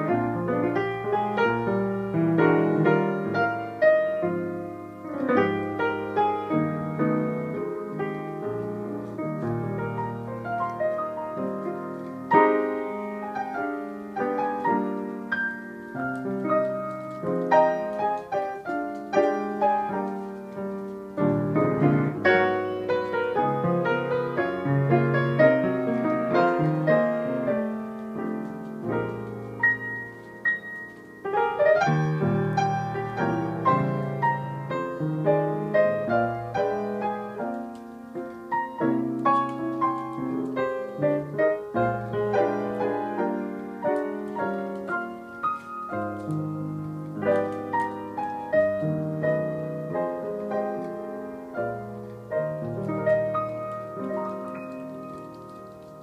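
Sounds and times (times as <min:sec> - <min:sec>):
grand piano chords and melody: 0:00.0 - 0:56.0.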